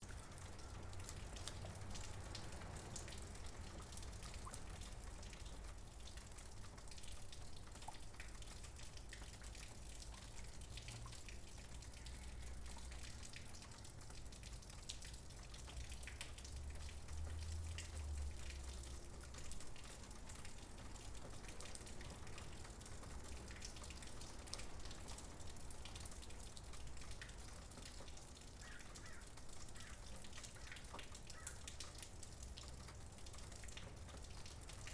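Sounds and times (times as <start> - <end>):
rain on a tiled roof: 0.0 - 34.9.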